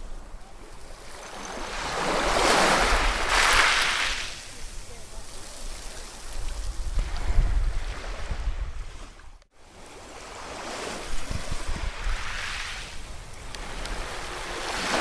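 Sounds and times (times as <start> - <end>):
ocean waves on a shore: 0.0 - 15.0.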